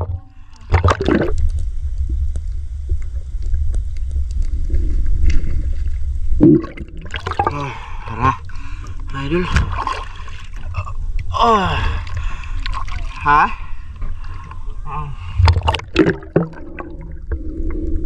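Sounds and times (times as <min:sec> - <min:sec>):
low rumble: 0:00.0 - 0:18.0
water gurgling and sloshing: 0:00.0 - 0:18.0.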